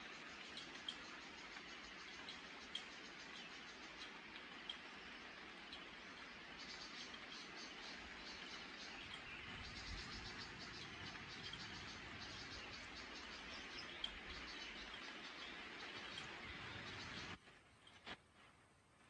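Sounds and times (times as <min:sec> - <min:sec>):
light rain hissing: 0:00.0 - 0:19.0.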